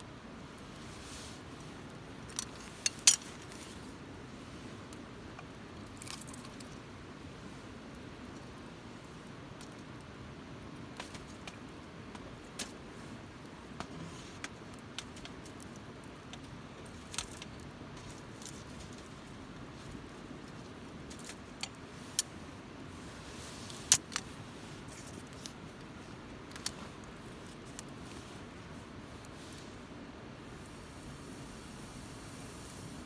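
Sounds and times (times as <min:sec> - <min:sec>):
campfire low hiss: 0:00.0 - 0:33.0
burning wood crackling and popping: 0:00.4 - 0:29.8.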